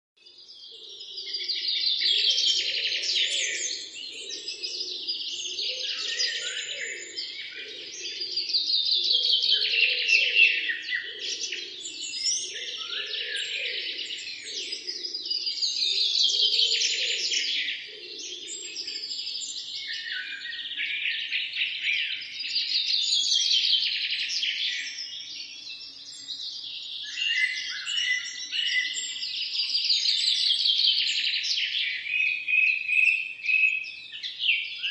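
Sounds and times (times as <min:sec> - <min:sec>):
birds chirping in chorus: 0:00.2 - 0:34.9
loud rapid bird song phrase: 0:00.2 - 0:34.9.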